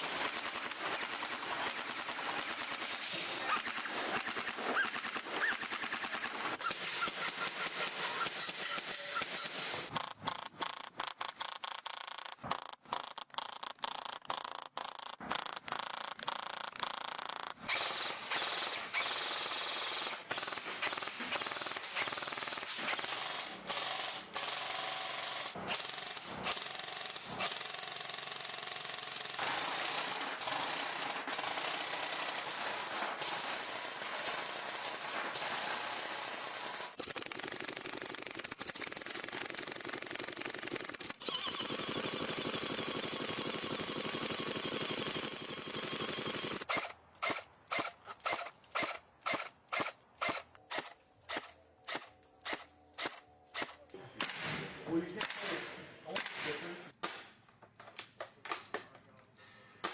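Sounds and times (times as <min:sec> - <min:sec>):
airsoft gun automatic bursts: 0:00.0 - 0:13.2, 0:13.9 - 0:53.8.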